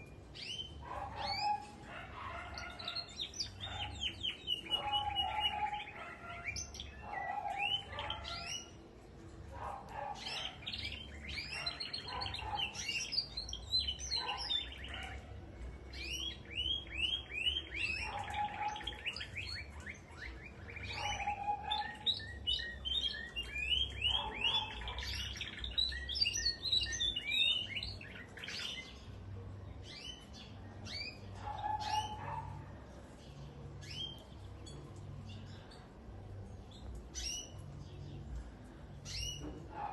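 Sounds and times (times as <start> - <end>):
cage birds chirping: 0.0 - 39.9.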